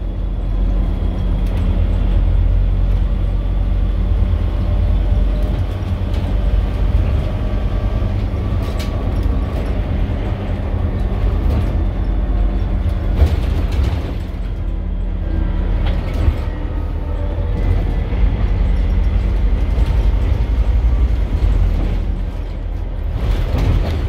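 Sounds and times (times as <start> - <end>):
bus diesel engine rumbling: 0.0 - 24.0.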